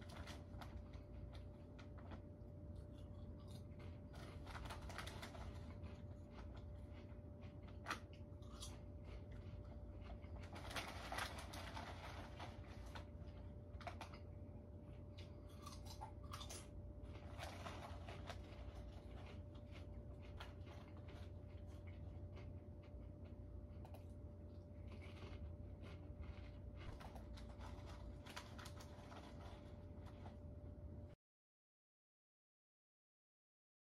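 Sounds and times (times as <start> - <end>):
faint low hum: 0.0 - 31.2.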